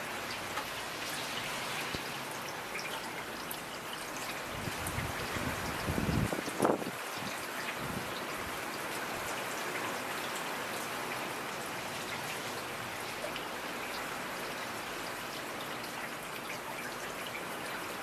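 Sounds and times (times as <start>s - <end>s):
raindrops ticking on surfaces: 0.0s - 18.0s
steady rain falling: 0.0s - 18.0s.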